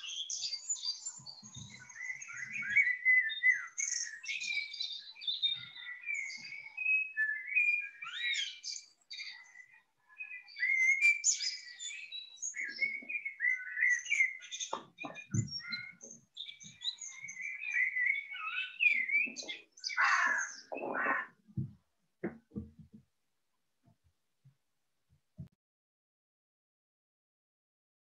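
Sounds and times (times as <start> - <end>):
birdsong chirps and trills: 0.0 - 22.9.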